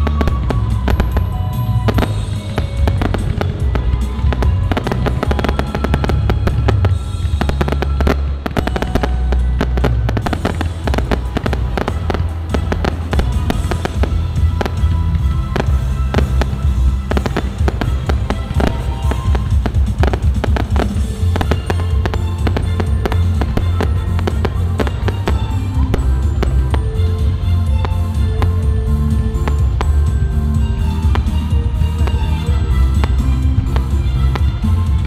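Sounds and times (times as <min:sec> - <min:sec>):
fireworks bangs and crackles: 0:00.0 - 0:35.0
low booming: 0:00.0 - 0:35.0
music playing: 0:00.0 - 0:35.0.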